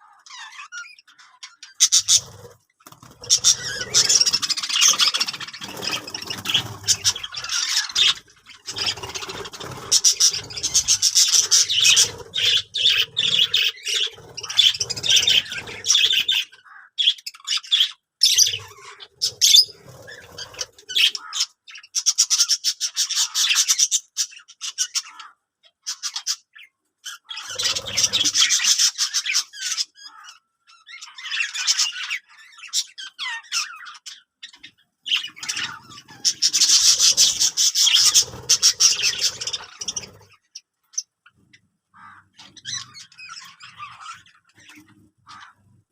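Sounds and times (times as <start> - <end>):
budgerigars chattering and squawking: 0.0 - 45.9.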